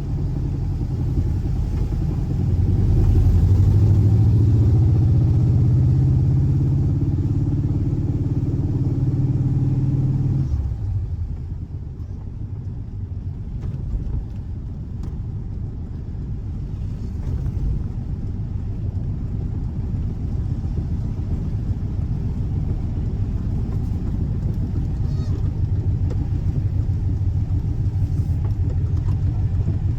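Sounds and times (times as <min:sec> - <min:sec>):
car engine running: 0:00.0 - 0:29.9.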